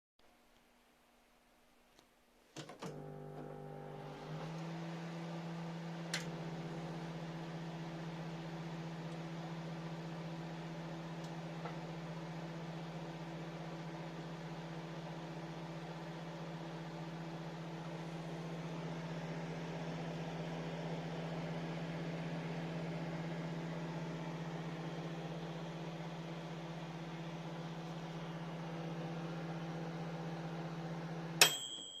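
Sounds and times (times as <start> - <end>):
microwave oven humming: 2.4 - 32.0.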